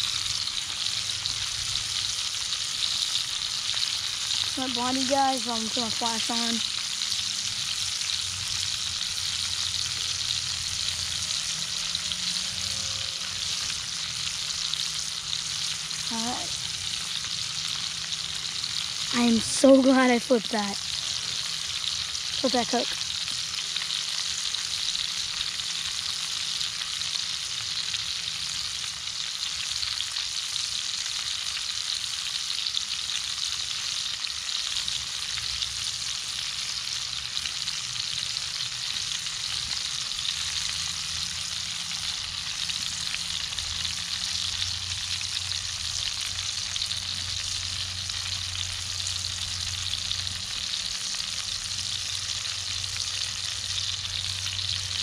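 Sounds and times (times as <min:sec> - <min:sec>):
steak sizzling in a skillet: 0:00.0 - 0:55.0.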